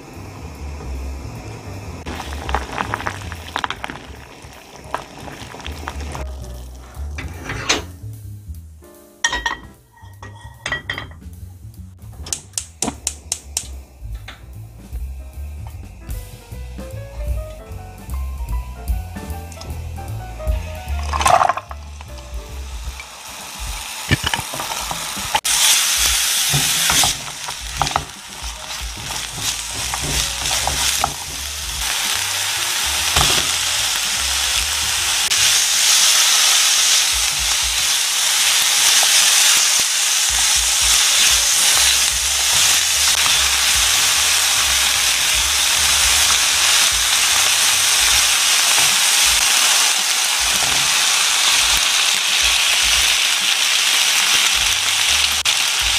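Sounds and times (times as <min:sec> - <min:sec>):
food sizzling in oil in a pan: 0:00.0 - 0:08.4, 0:12.4 - 0:55.9.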